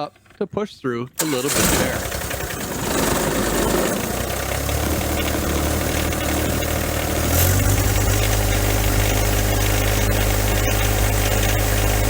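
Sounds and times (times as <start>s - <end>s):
diesel engine idling: 1.2s - 12.0s.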